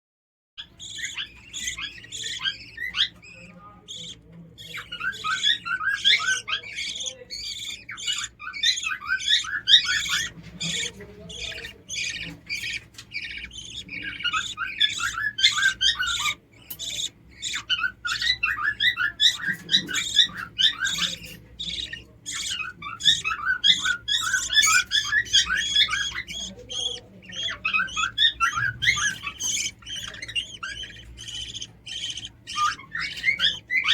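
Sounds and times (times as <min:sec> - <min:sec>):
lovebird chick chirping: 0:00.6 - 0:33.9.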